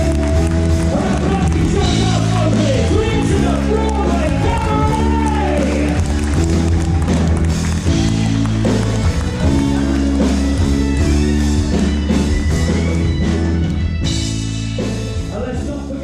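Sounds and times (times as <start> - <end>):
music with held chords: 0.0 - 16.0.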